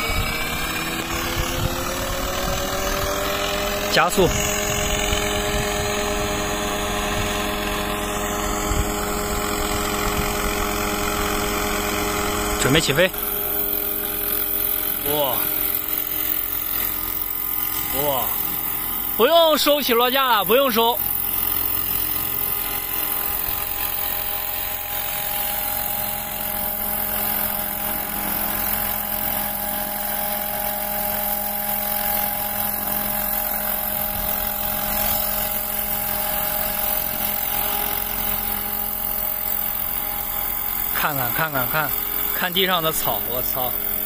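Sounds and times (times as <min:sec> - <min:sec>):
rc helicopter hovering: 0:00.0 - 0:44.0.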